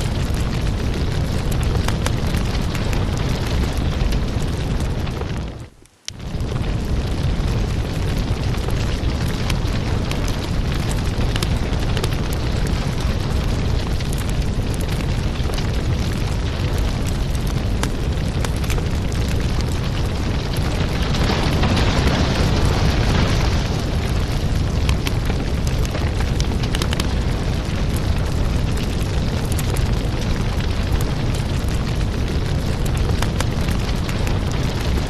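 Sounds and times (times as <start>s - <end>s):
firewood burning and crackling: 0.0s - 35.0s.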